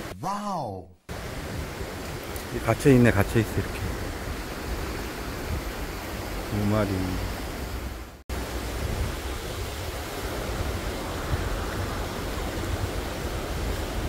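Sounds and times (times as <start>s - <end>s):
stream water rushing: 1.1s - 14.0s.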